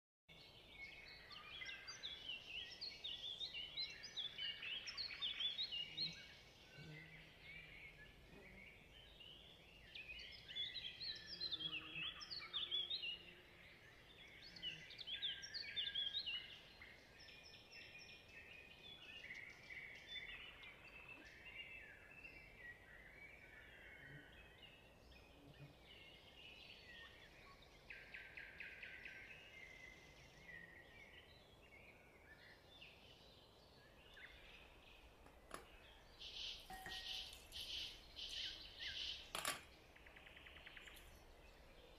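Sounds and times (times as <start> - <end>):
small birds chirping and singing: 0.3 - 41.9.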